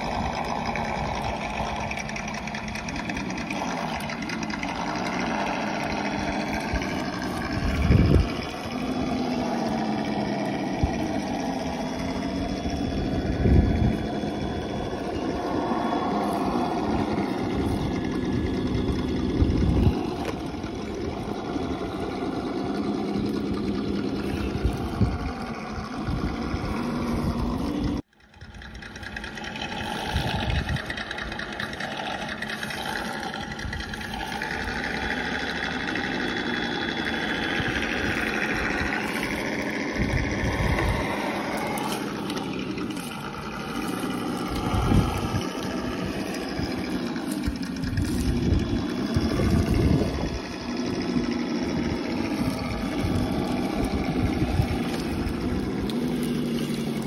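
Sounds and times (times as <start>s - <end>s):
simulated engine sound: 0.0s - 57.0s.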